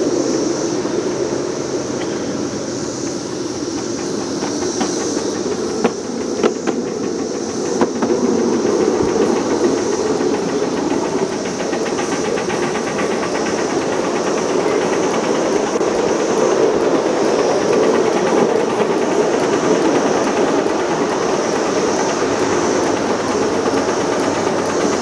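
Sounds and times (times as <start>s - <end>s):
continuous high hiss: 0.0s - 25.0s
wheels clicking over rail joints: 0.0s - 25.0s
wheels rumbling on rails: 0.0s - 25.0s.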